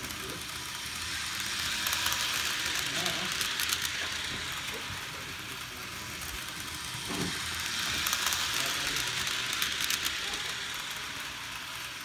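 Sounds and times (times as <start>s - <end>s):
model train motors whirring: 0.0s - 12.0s.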